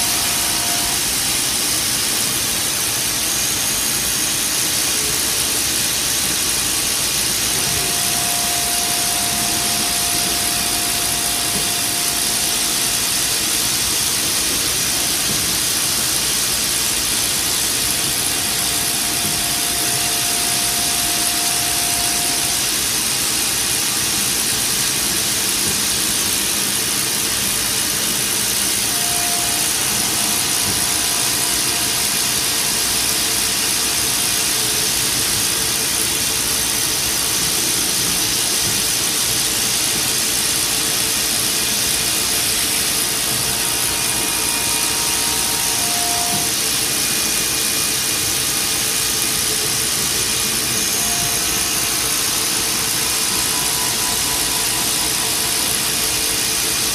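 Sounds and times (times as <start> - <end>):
milling machine cutting: 0.0 - 56.9.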